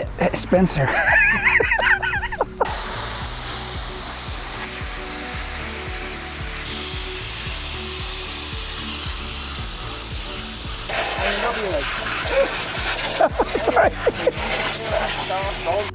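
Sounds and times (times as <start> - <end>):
music with steady beat: 0.1 - 15.9
water spraying from hose: 1.0 - 15.9.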